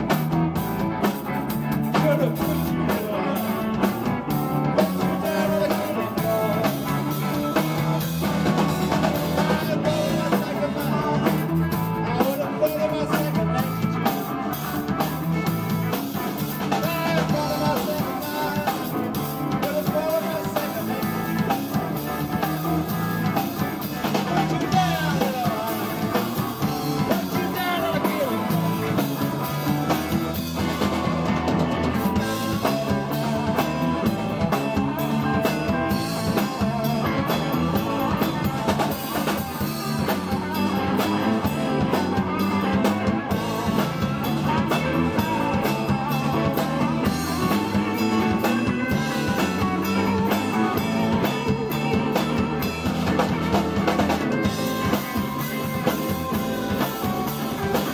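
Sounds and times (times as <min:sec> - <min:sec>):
drum kit: 0:00.0 - 0:57.9
electric guitar: 0:00.0 - 0:57.9.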